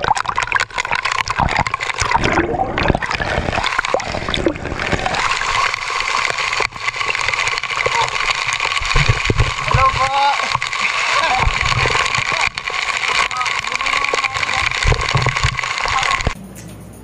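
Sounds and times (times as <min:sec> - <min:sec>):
crackling bubbles: 0:00.0 - 0:16.4
rush of falling water: 0:00.0 - 0:16.4
water splashing and bubbling: 0:00.0 - 0:16.4.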